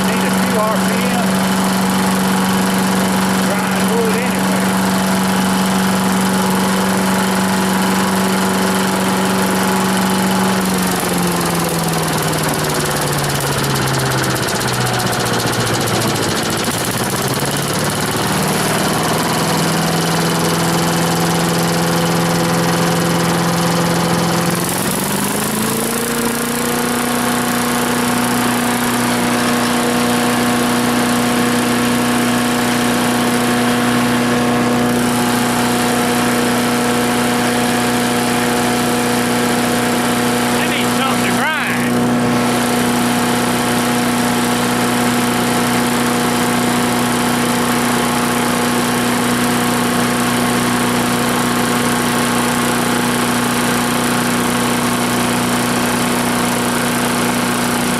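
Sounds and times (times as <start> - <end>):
wood chipper engine running: 0.0 - 57.9.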